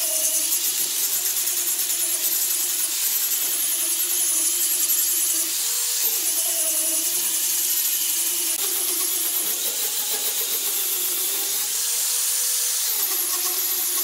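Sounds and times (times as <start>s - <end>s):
angle grinder sanding wood: 0.0s - 14.0s.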